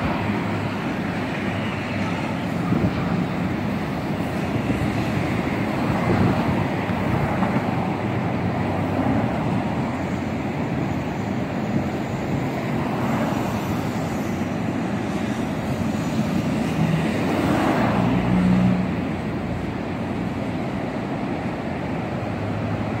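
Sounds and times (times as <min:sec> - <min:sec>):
freeway traffic passing: 0:00.0 - 0:23.0.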